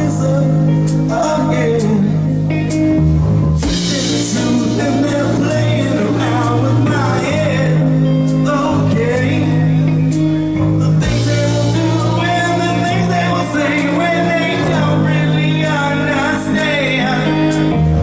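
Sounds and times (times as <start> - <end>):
man singing: 0.0 - 2.8, 3.6 - 18.0
bass guitar: 0.0 - 18.0
drums: 0.0 - 18.0
electric guitar: 0.0 - 18.0.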